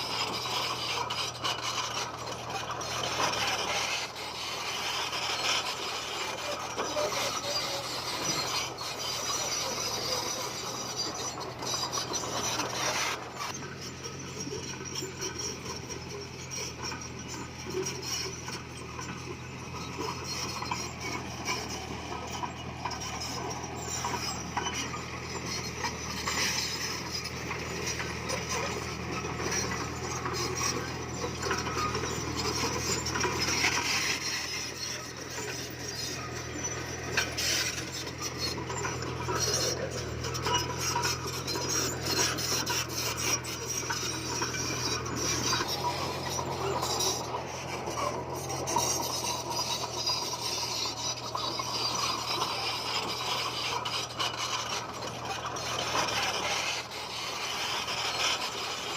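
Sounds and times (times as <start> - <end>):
bulldozer diesel engine running: 0.0 - 58.9
stone and tracks grinding: 0.0 - 58.9.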